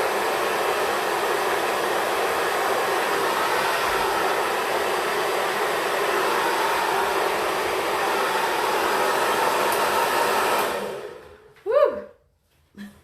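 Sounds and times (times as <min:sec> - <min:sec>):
hair dryer blowing: 0:00.0 - 0:11.7.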